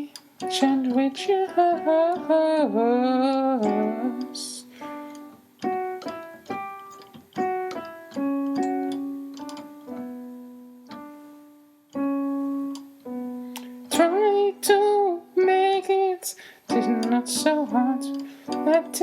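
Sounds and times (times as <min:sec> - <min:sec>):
slow piano notes and chords: 0:00.0 - 0:19.0.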